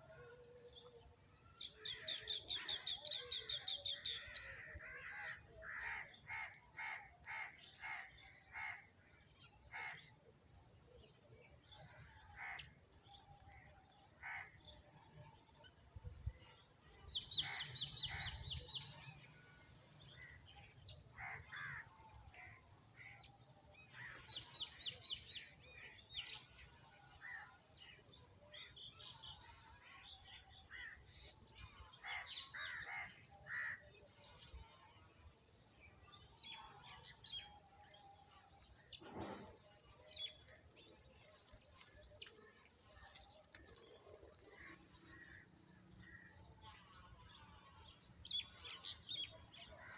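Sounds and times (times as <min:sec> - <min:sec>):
sparrows chirping: 0:00.4 - 0:49.9.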